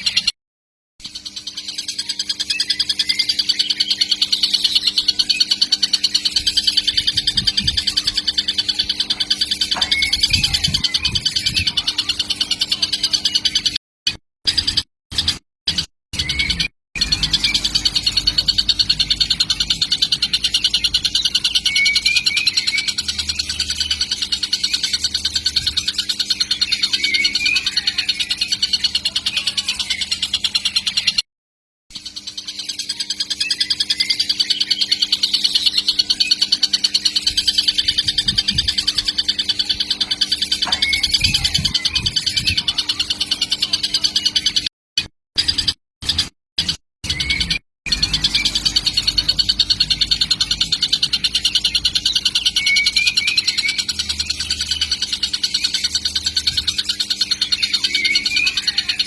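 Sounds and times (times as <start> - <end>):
kingfisher chittering trill: 1.1 - 13.7, 16.2 - 31.0, 32.0 - 44.6, 47.0 - 59.0.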